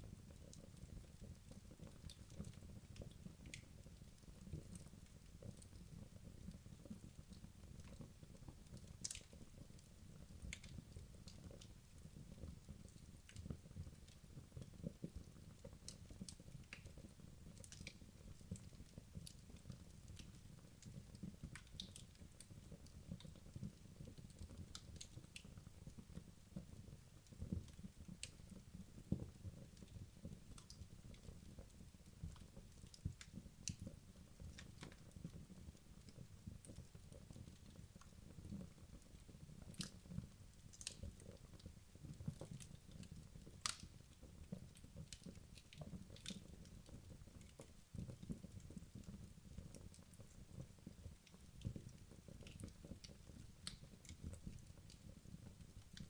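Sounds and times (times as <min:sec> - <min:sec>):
logs crackling and popping: 0:00.2 - 0:56.0.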